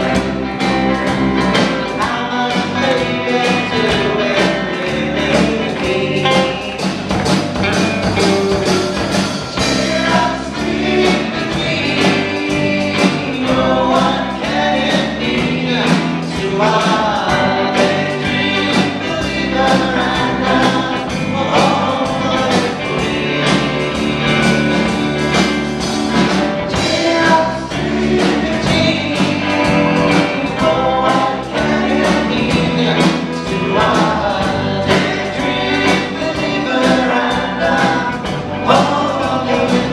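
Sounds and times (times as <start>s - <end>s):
amplified singing: 0.0s - 39.9s
drums: 0.0s - 39.9s
electric guitars: 0.0s - 39.9s.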